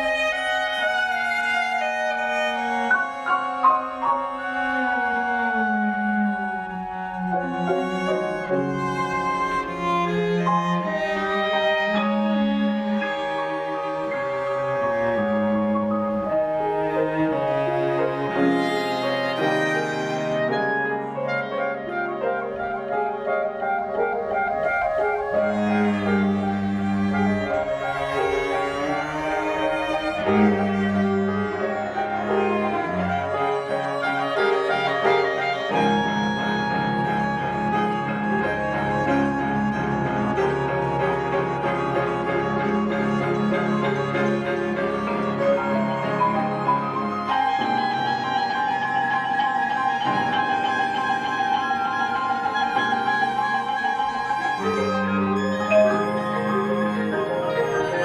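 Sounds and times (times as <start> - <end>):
cello low bowed notes: 0.0 - 58.0
chamber ensemble playing sustained notes: 0.0 - 58.0.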